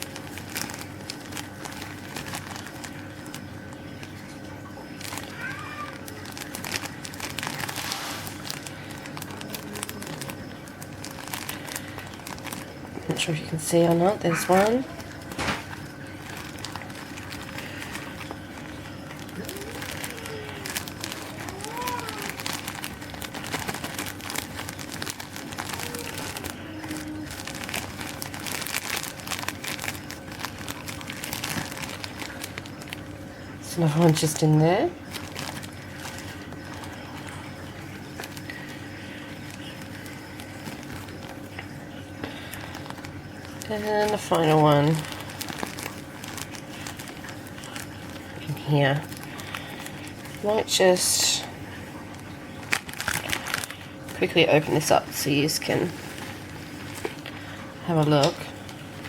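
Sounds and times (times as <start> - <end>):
packaging crinkling and rustling: 0.0 - 59.0.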